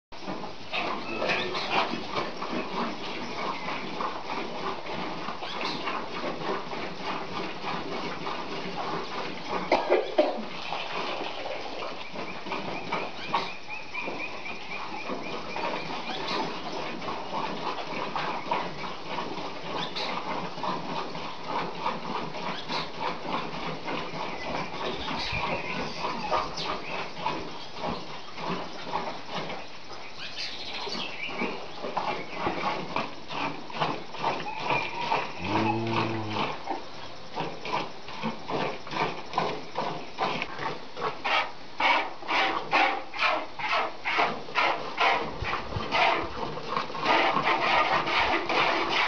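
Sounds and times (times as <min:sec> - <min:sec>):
cattle sounds: 0:00.7 - 0:29.6, 0:30.8 - 0:49.0.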